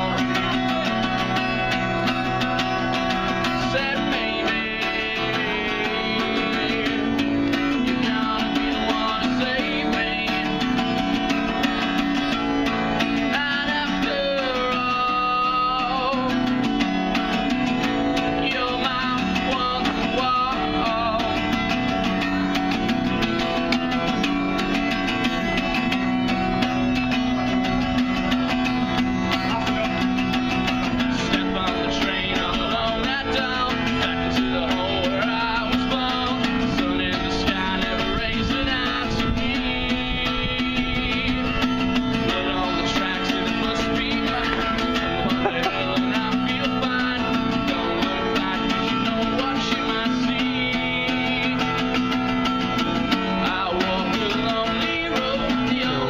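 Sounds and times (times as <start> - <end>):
guitar-led music: 0.0 - 56.0.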